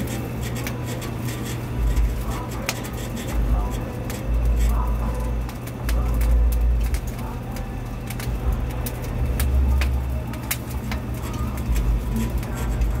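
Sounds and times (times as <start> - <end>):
rotisserie motor hum: 0.0 - 13.0.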